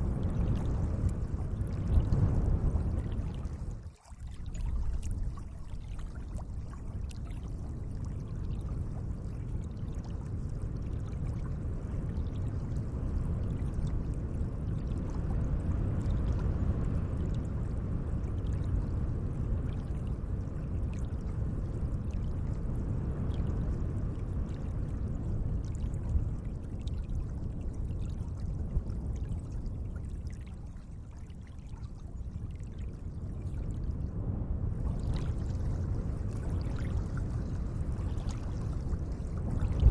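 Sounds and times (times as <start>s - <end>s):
small drips and splashes: 0.2s - 22.6s, 23.2s - 34.0s, 34.8s - 39.9s.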